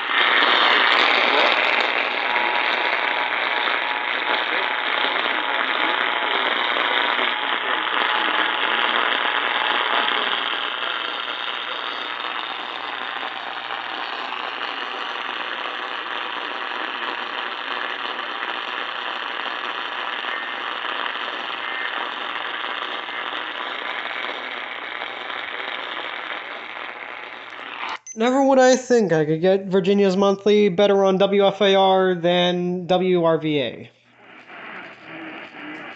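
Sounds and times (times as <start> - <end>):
radio static hiss and crackle: 0.0 - 35.9.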